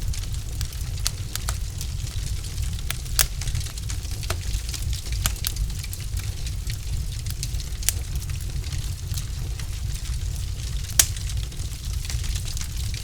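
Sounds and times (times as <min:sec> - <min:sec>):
logs crackling and popping: 0:00.0 - 0:13.0
wood fire rumbling and hissing: 0:00.0 - 0:13.0.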